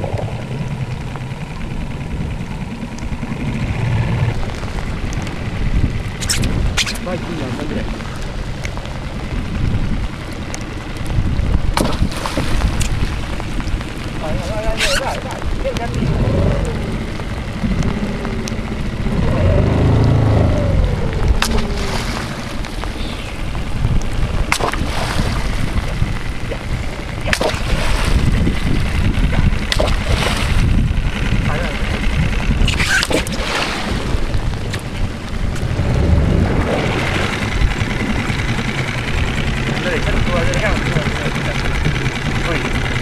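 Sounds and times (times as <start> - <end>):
low engine rumble: 0.0 - 43.0
water splashing against hull: 0.0 - 43.0
wind buffeting microphone: 0.0 - 43.0.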